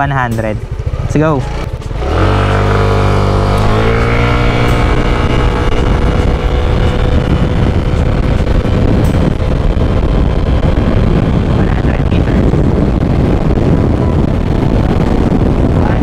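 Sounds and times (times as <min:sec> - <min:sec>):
wind and road noise: 0:00.0 - 0:16.0
scooter engine accelerating: 0:00.6 - 0:16.0.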